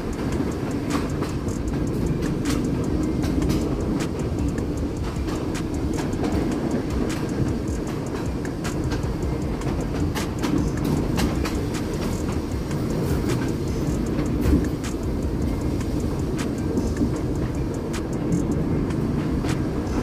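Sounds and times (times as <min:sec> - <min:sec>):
sharp clicks and rattles: 0:00.0 - 0:20.0
wheels rumbling on rail: 0:00.0 - 0:20.0.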